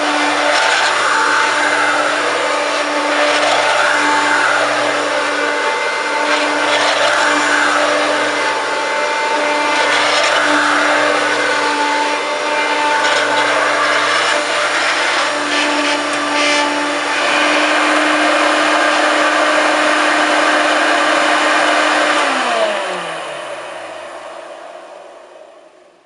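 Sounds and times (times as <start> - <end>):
upright vacuum cleaner on carpet: 0.0 - 26.0.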